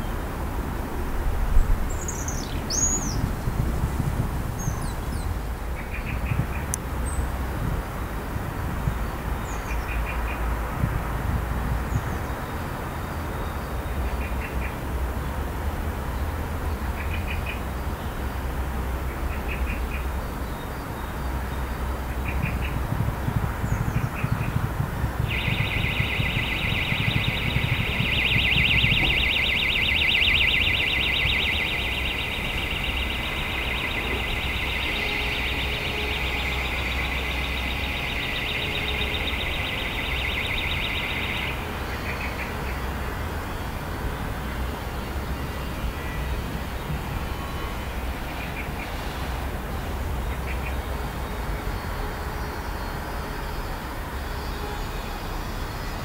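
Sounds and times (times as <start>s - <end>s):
low traffic rumble: 0.0s - 56.0s.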